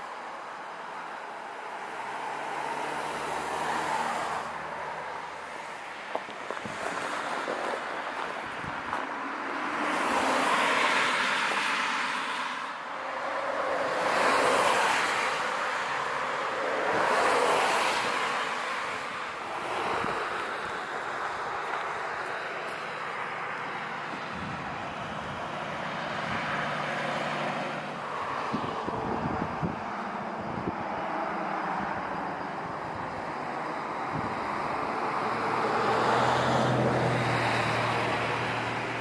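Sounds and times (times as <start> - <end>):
cars passing: 0.0 - 39.0.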